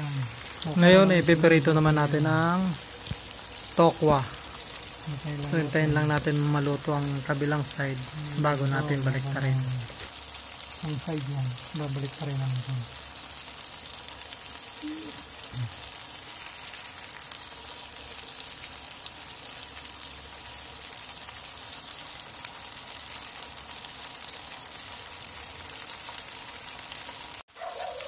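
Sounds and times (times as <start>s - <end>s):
tofu sizzling in oil: 0.0s - 28.0s.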